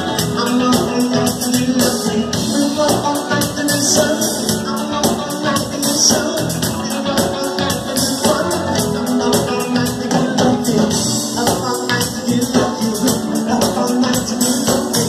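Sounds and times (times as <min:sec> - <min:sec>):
guitar: 0:00.0 - 0:15.0
live rock band: 0:00.0 - 0:15.0.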